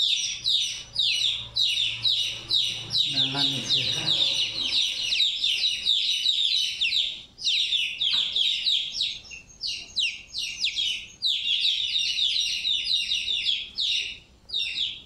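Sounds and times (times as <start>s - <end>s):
chick peeping loudly: 0.0s - 15.0s.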